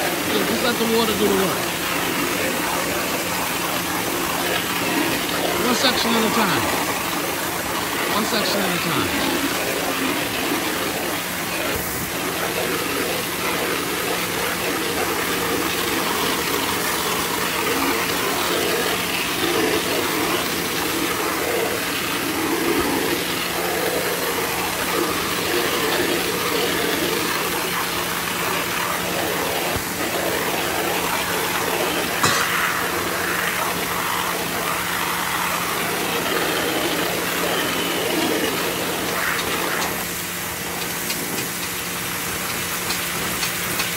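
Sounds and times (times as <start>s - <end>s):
machine hum: 0.0s - 43.9s.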